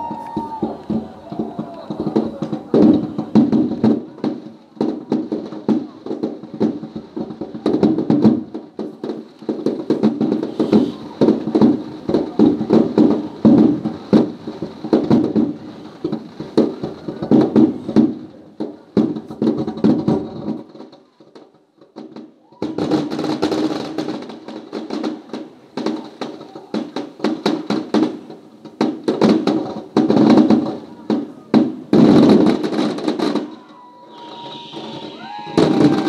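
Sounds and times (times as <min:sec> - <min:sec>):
firework booms and bangs: 0:00.0 - 0:36.0.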